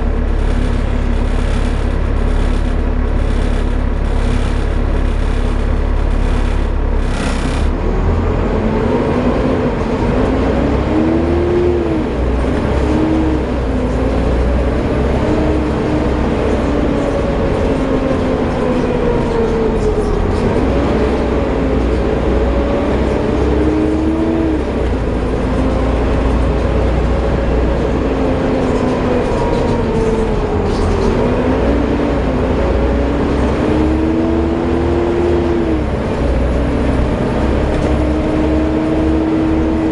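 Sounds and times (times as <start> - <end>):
bus engine rumble: 0.0 - 39.9
drivetrain whine: 0.0 - 39.9.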